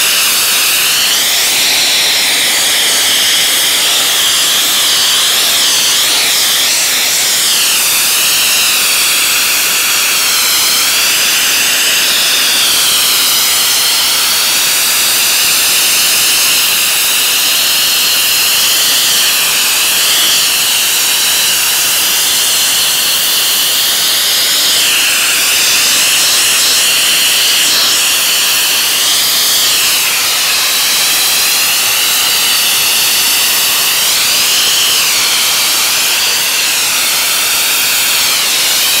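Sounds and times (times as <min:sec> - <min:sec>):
abrasive blaster hissing: 0:00.0 - 0:39.0.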